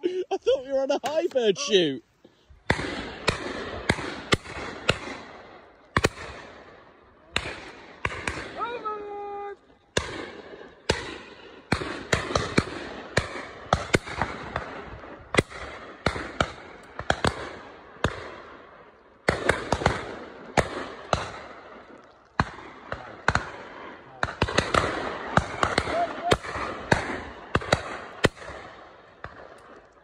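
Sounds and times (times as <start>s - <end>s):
shotgun shots: 2.6s - 8.8s, 9.9s - 21.8s, 22.4s - 29.8s.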